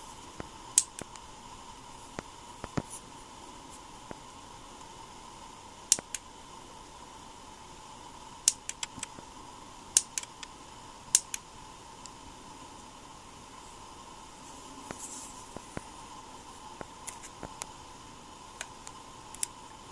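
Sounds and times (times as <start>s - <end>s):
faint steady hum: 0.0s - 19.9s.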